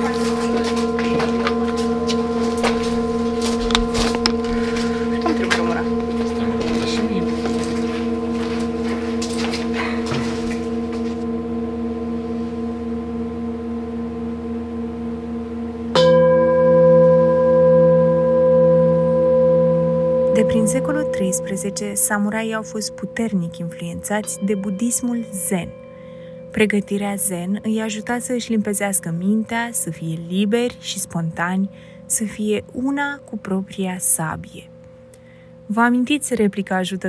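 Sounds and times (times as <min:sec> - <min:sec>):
singing bowl ringing: 0:00.0 - 0:36.1.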